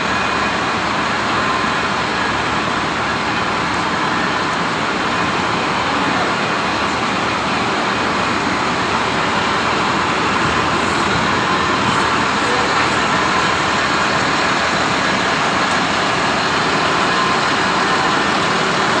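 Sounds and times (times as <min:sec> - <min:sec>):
well drilling rig running: 0:00.0 - 0:19.0.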